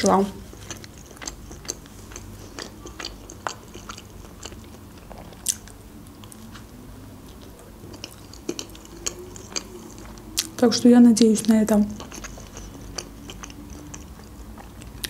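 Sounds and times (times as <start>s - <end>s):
chewing and biting: 0.4s - 6.7s, 7.3s - 10.6s, 11.2s - 15.0s.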